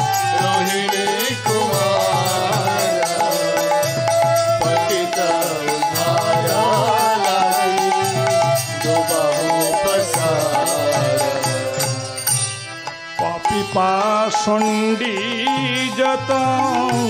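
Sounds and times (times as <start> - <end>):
ornamented melody line: 0.0 - 17.0
steady drum beat: 0.0 - 17.0.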